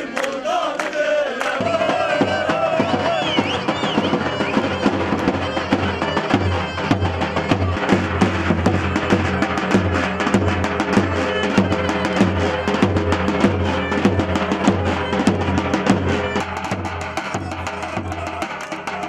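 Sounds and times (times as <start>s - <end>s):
deep drum beat: 1.5s - 19.0s
reedy pipe melody: 1.6s - 19.0s.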